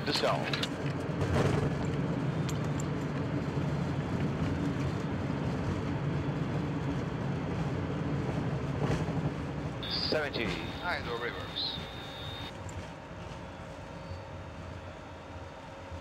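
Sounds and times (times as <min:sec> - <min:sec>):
low rumble of aircraft rollout: 0:00.0 - 0:16.0.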